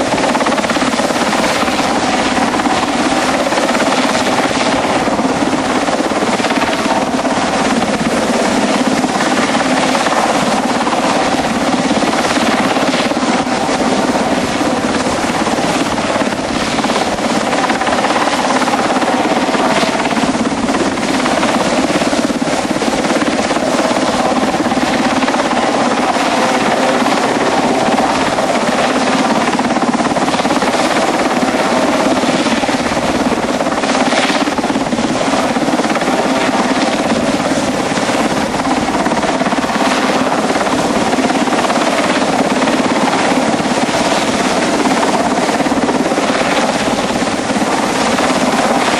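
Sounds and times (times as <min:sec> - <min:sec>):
helicopter engines and rotor: 0:00.0 - 0:48.9.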